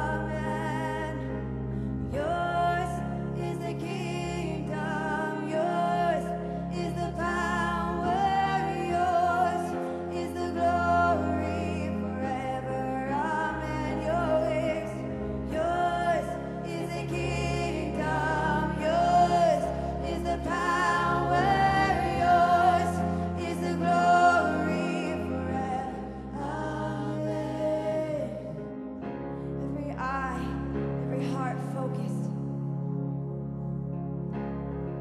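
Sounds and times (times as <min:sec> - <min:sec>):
women singing together: 0:00.0 - 0:28.6
instrumental backing with bass: 0:00.0 - 0:35.0.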